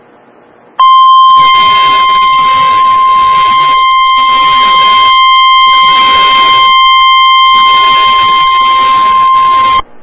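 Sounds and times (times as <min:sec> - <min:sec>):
steady alarm tone: 0:00.8 - 0:09.9.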